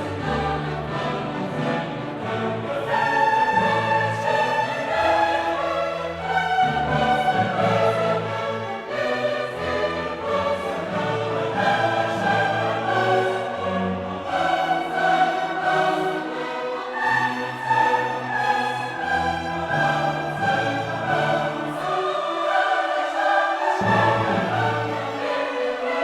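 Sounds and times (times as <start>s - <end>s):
choir singing sustained chords: 0.0s - 26.0s
orchestral classical music: 0.0s - 26.0s.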